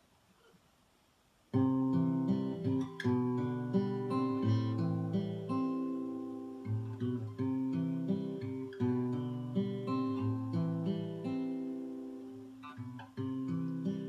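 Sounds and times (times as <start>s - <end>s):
acoustic guitar strumming: 1.5s - 14.0s.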